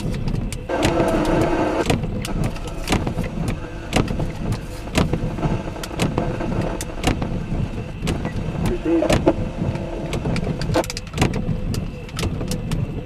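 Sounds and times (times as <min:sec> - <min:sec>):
rain drops tapping: 0:00.0 - 0:13.0
steady low rumble: 0:00.0 - 0:13.0.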